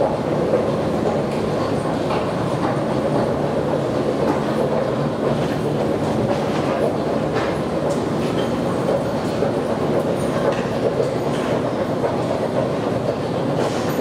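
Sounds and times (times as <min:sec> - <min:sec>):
metro station rumble: 0:00.0 - 0:14.0.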